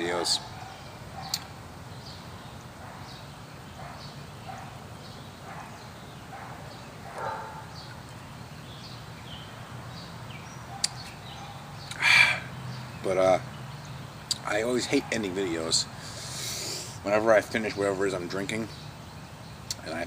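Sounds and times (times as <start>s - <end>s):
small bird chirping: 0.0s - 16.8s.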